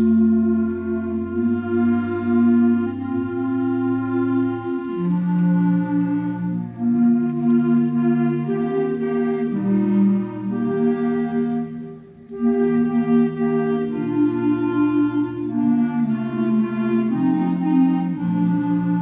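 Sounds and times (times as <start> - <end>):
wind band playing a hymn: 0.0 - 19.0.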